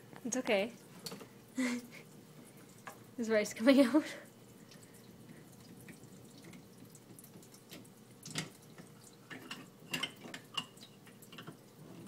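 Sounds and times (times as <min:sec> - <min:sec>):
water trickling into pot: 0:00.5 - 0:12.0
water drips and splashes: 0:00.7 - 0:12.0.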